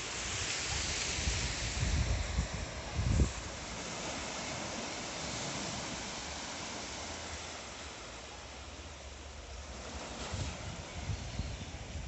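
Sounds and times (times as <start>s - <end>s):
small waves washing over sand: 0.0s - 12.0s.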